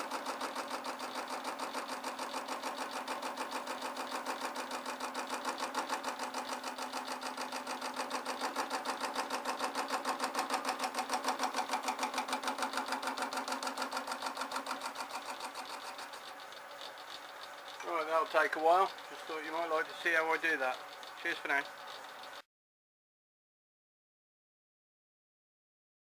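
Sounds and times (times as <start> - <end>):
metal lathe cutting steel: 0.0 - 22.4.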